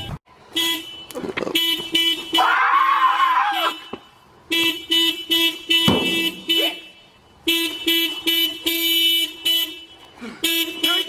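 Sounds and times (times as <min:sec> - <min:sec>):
car horn honking: 0:00.5 - 0:02.6, 0:03.5 - 0:11.0.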